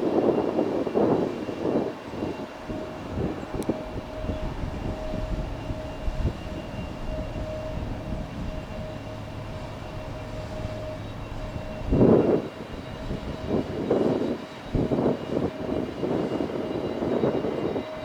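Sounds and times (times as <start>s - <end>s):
faint jet engine whine: 0.0s - 18.0s
jet engines rumbling: 0.0s - 18.0s.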